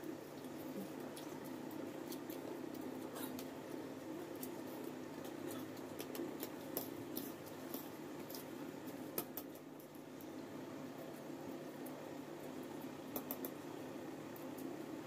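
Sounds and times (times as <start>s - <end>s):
people chewing noodles: 0.0s - 13.6s.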